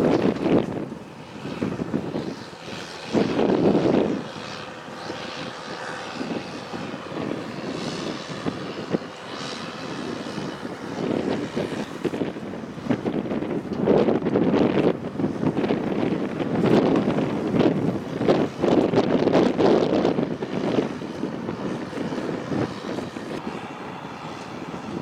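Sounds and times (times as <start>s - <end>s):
wind gusts on microphone: 0.0s - 25.0s.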